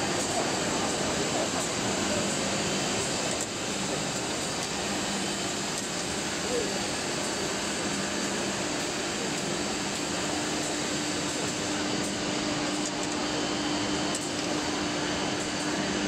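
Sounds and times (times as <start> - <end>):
cnc router whirring: 0.0 - 16.0.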